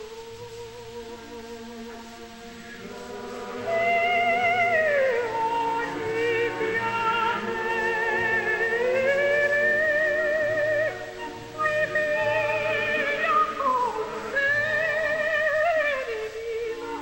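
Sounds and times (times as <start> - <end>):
operatic soprano singing: 0.0 - 17.0.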